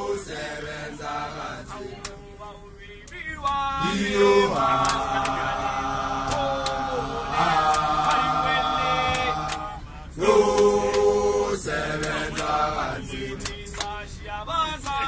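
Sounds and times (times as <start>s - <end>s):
men singing a cappella chant: 0.0s - 15.0s.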